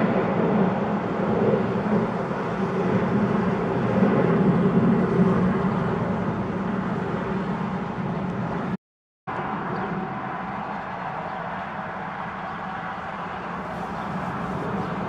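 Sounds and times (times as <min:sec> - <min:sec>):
jet aircraft roaring in flight: 0:00.0 - 0:15.0.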